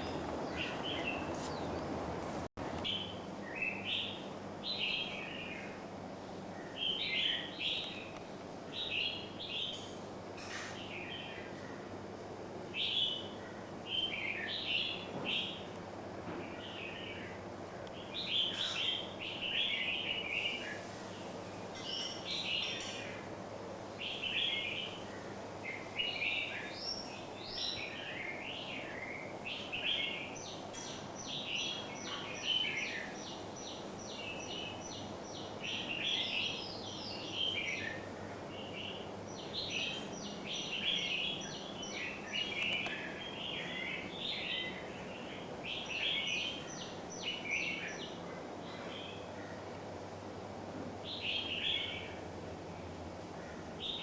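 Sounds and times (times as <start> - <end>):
small birds chirping: 0.0 - 12.0, 12.7 - 49.7, 51.0 - 54.0
faint steady hum: 0.0 - 54.0.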